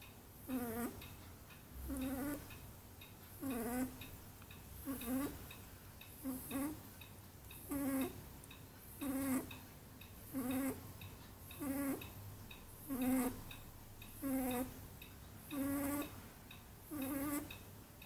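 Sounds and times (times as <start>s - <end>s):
rabbit snoring: 0.0s - 2.7s, 3.3s - 12.2s, 12.8s - 17.6s.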